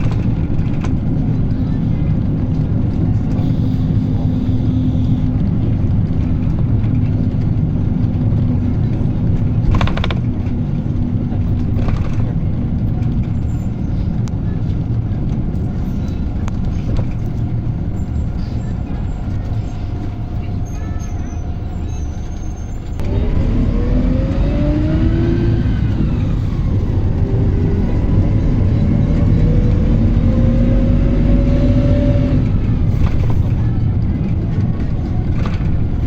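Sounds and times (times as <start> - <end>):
bus engine droning: 0.0 - 36.0.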